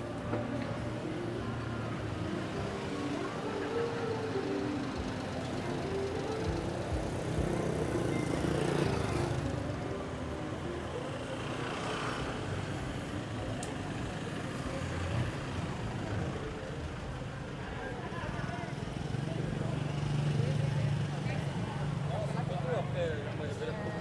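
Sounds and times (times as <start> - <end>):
traffic noise: 0.0 - 24.0
vehicles passing by: 0.0 - 24.0.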